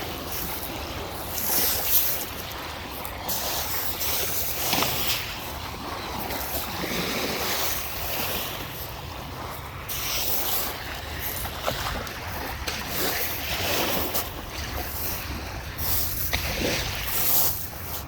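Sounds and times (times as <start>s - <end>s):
waves washing onto beach: 0.0s - 18.0s
wind rumbling on microphone: 0.0s - 18.0s.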